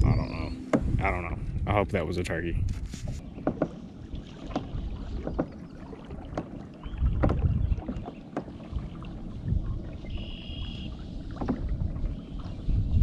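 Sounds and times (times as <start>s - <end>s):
water lapping at hull: 0.0s - 13.0s
wind buffeting microphone: 0.0s - 13.0s.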